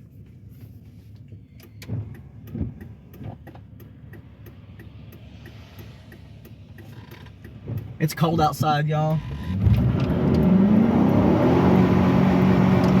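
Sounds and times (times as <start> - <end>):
turn signal ticking: 0.0 - 13.0.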